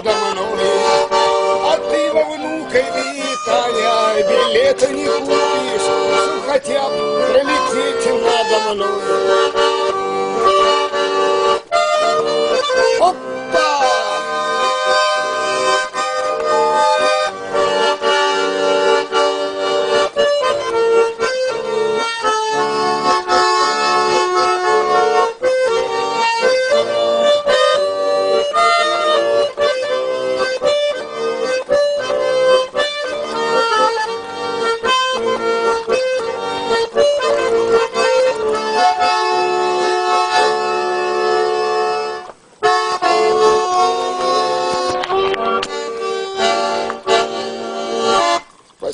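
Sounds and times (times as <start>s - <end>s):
button accordion playing: 0.0s - 48.9s.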